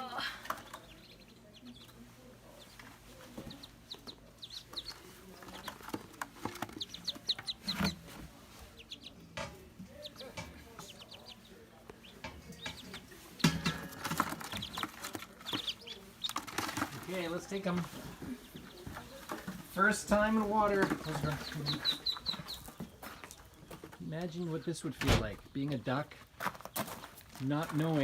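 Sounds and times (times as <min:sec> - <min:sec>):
ducklings peeping: 0:00.1 - 0:26.0.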